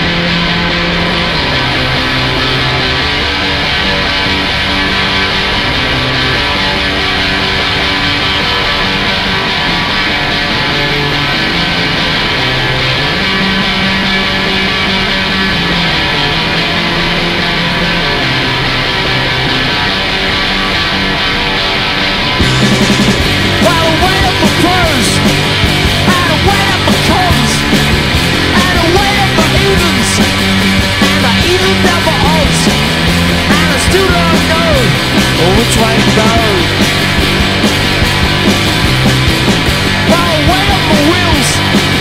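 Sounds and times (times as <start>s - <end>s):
guitar-driven rock music: 0.0s - 42.0s.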